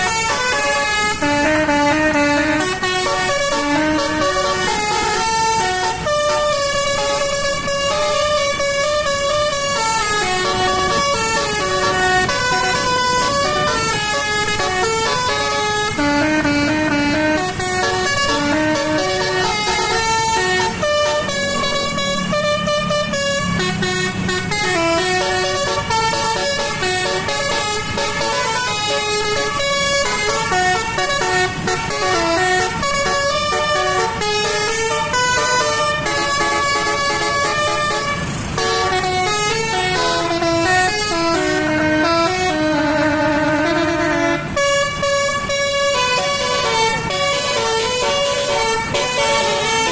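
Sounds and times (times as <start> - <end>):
low engine rumble: 0.0 - 49.9
musical bus horn melody: 0.0 - 49.9.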